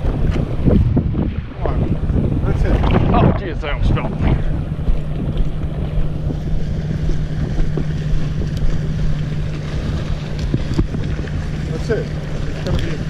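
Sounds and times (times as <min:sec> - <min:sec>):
choppy sea: 0:00.0 - 0:13.0
steady low hum: 0:00.0 - 0:13.0
wind buffeting microphone: 0:00.0 - 0:13.0.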